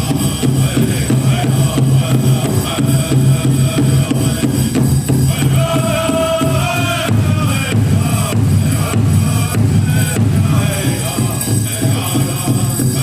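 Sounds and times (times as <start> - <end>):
big drum steady beat: 0.0 - 13.0
singers chanting: 0.0 - 13.0.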